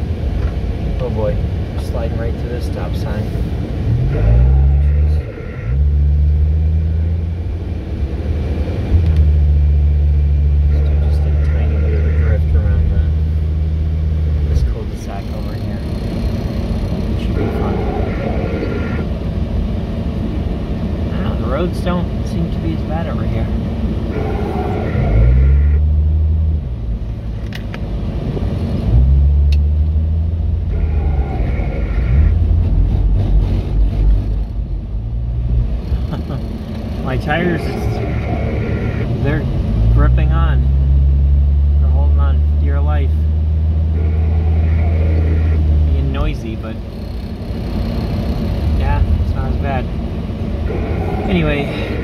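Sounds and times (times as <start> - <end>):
car engine from inside cabin: 0.0 - 52.0
low rumbling drone: 0.0 - 52.0.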